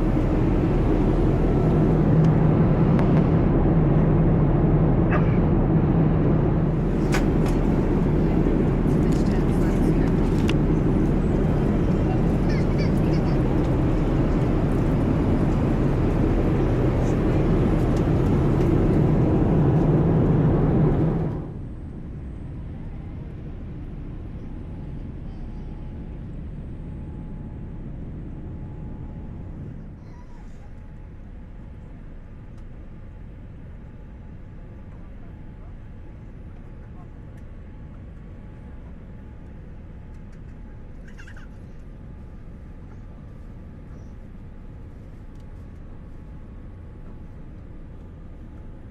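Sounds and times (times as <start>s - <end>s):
airliner cabin roar: 0.0s - 48.9s.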